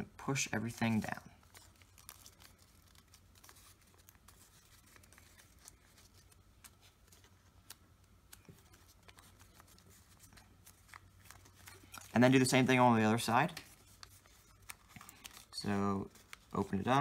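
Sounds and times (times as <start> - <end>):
paper crinkling as folded: 0.4 - 17.0.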